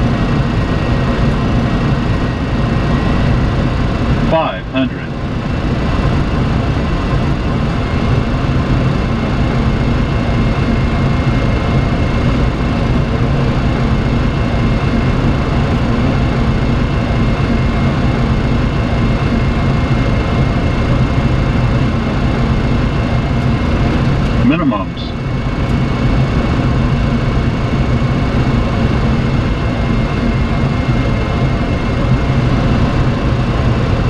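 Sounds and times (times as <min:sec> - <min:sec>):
air rushing around cockpit: 0:00.0 - 0:34.0
faint high whine: 0:00.0 - 0:34.0
low engine hum: 0:00.0 - 0:34.0.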